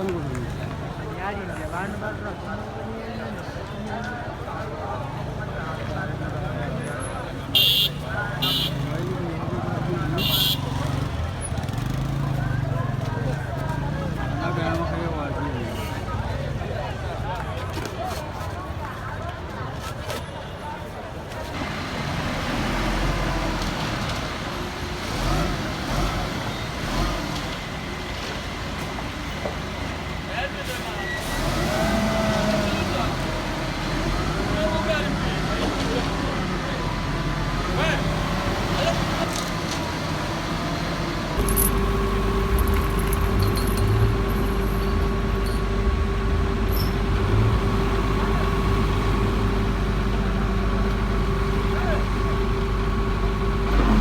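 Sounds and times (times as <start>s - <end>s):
vehicle engine rumbling: 0.0s - 18.9s, 21.0s - 54.0s
road noise: 0.0s - 54.0s.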